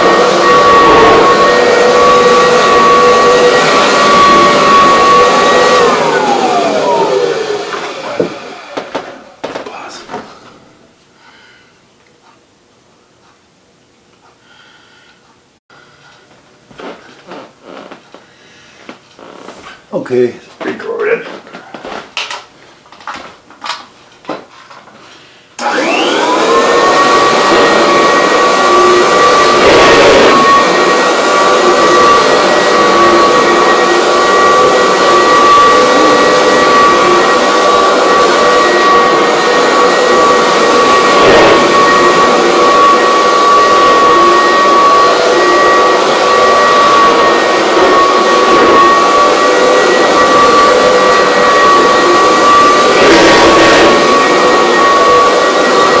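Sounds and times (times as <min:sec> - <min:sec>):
vacuum cleaner whining: 0:00.0 - 0:11.0, 0:16.0 - 0:22.4, 0:23.1 - 0:56.0.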